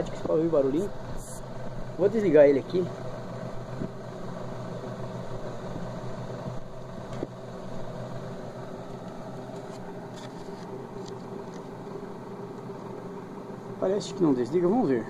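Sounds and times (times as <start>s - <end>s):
refrigerator compressor humming: 0.0s - 15.0s.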